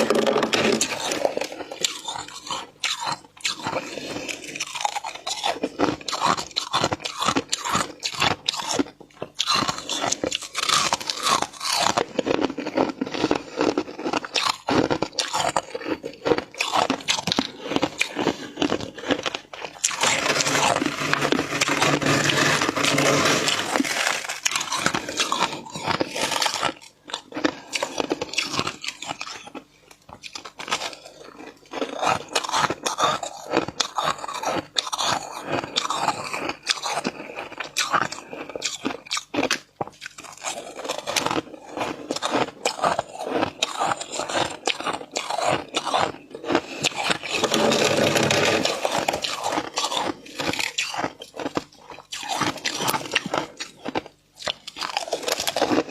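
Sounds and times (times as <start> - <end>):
frost crunching between teeth: 0.0 - 55.9.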